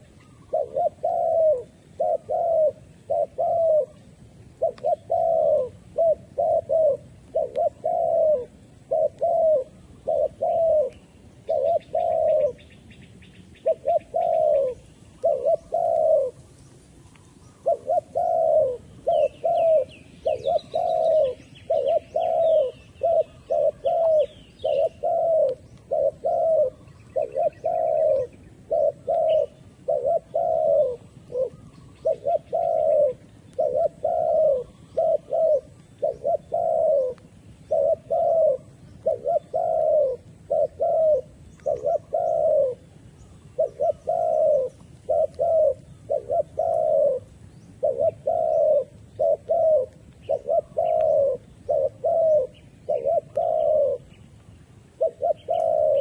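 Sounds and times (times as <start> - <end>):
dove cooing: 0.0 - 56.0
small birds chirping: 0.0 - 56.0.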